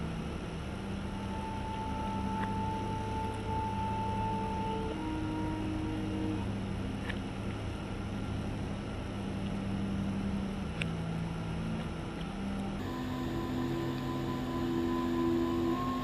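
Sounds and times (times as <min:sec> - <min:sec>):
slow ambient music: 0:00.0 - 0:16.0.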